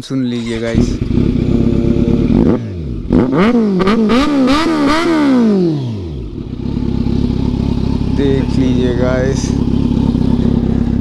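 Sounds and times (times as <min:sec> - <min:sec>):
motorcycle engine revving: 0:00.3 - 0:11.0.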